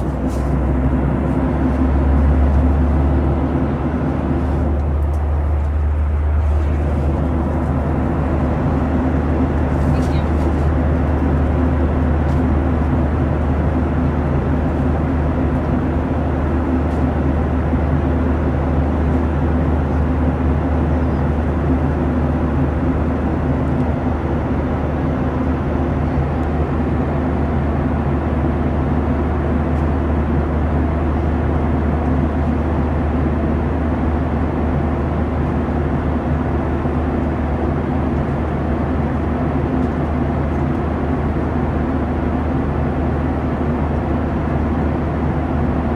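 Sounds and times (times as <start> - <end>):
airplane cabin drone: 0.0 - 45.9.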